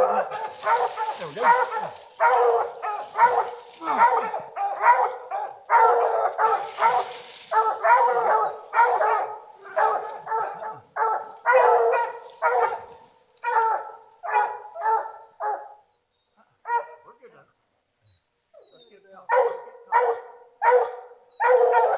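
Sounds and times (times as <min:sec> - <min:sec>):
dogs barking: 0:00.0 - 0:15.9, 0:16.6 - 0:17.1, 0:19.3 - 0:21.9.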